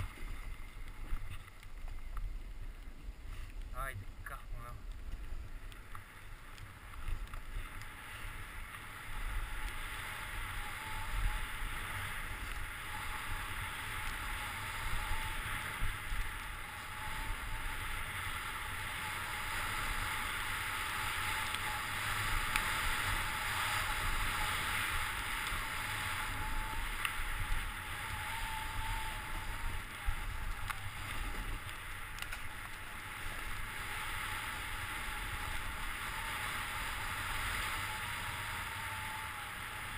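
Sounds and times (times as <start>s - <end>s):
wind rumbling on microphone: 0.0s - 39.9s
skis hissing over snow: 5.4s - 39.9s.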